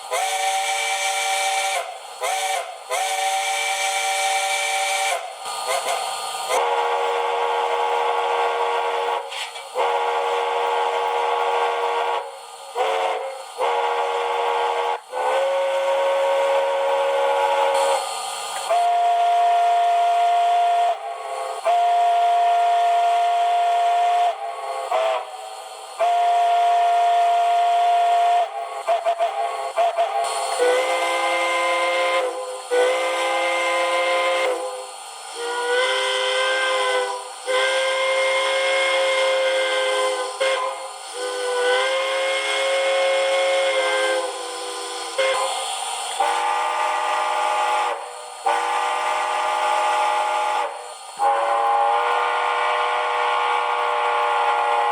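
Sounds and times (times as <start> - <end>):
steam locomotive chime whistle: 0.0 - 54.9.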